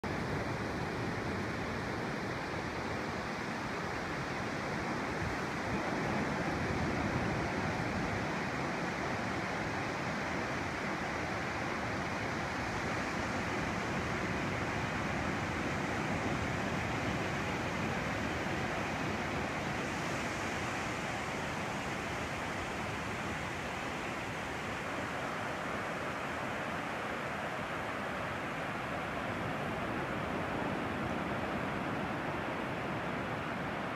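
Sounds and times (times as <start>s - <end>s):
ocean surf on beach: 0.0s - 33.9s.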